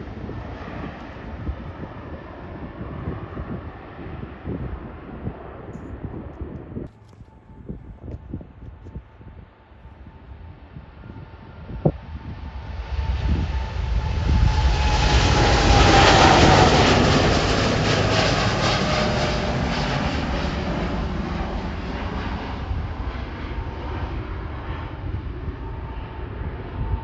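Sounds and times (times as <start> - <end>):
jet airliner passing: 0.0 - 6.9, 9.2 - 27.0
jet engine whine: 0.0 - 27.0.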